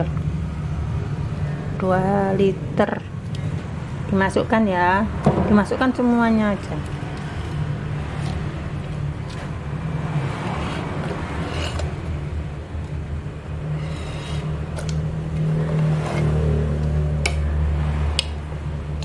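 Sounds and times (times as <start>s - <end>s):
low motor rumble: 0.0s - 19.0s.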